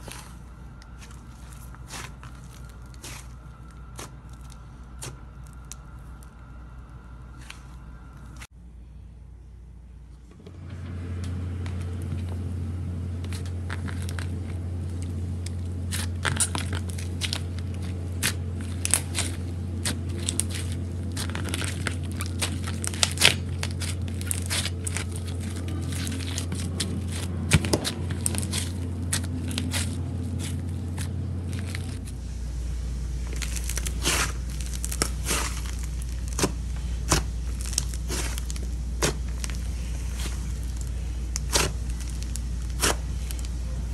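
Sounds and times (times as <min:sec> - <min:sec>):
slime crackling and popping: 0:00.0 - 0:06.5, 0:13.2 - 0:32.1, 0:33.2 - 0:43.7
steady low hum: 0:00.0 - 0:43.9.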